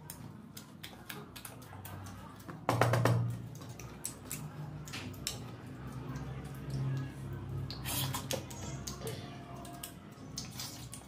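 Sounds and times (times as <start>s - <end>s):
wet chewing sounds: 0.0s - 11.0s.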